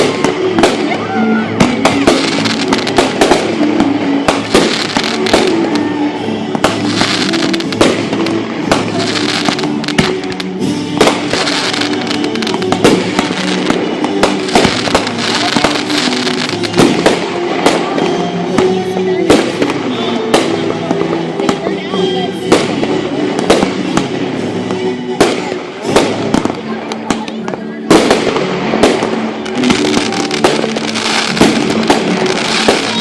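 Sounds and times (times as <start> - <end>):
fireworks bursting: 0.0 - 33.0
fireworks crackling: 0.0 - 33.0
music with held notes: 0.0 - 33.0.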